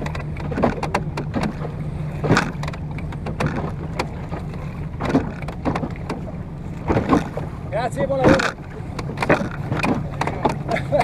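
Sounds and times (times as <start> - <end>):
water splashing against wooden hull: 0.0 - 11.0.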